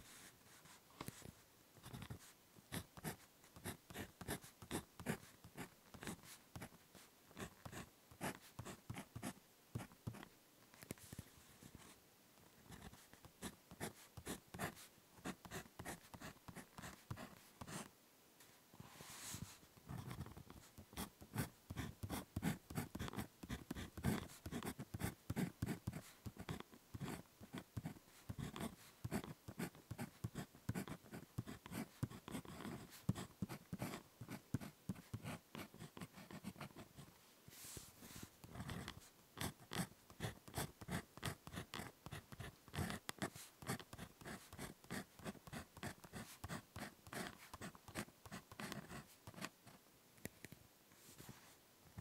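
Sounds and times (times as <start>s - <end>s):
pen scratching on paper: 1.8s - 10.3s, 12.7s - 17.9s, 19.1s - 37.0s, 38.4s - 49.5s.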